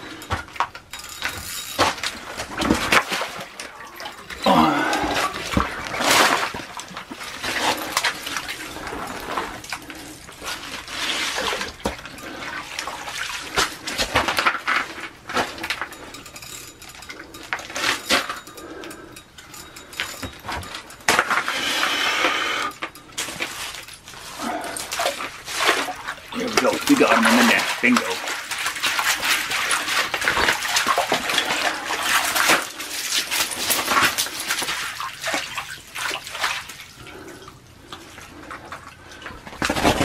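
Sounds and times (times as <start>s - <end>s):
water sloshing and splashing: 0.0s - 40.0s.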